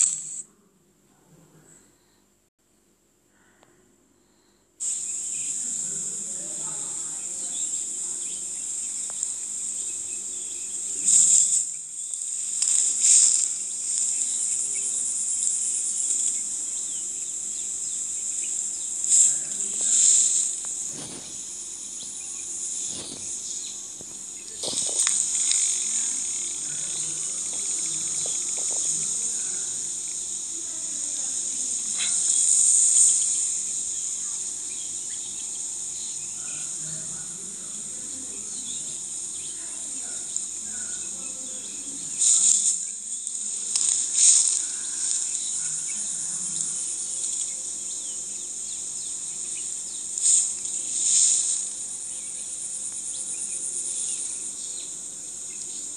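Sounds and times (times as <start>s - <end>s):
insects chirring: 0.0s - 0.4s, 3.4s - 55.9s.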